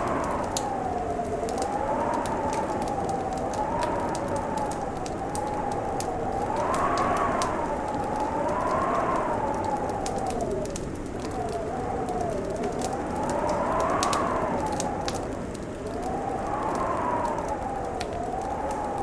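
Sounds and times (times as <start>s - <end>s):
fireplace crackling and popping: 0.0s - 19.0s
wind howling: 0.0s - 19.0s.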